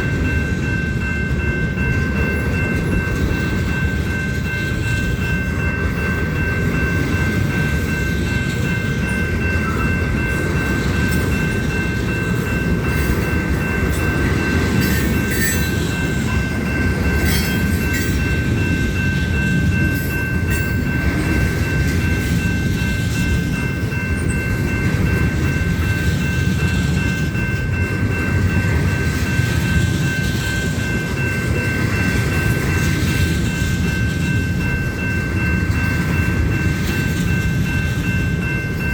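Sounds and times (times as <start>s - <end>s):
train cars rumbling past: 0.0s - 38.9s.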